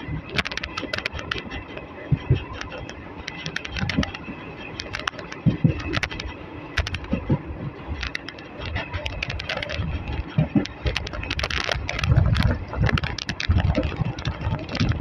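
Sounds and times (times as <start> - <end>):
train coach rumble: 0.0 - 15.0
clicks and rattles: 0.2 - 15.0.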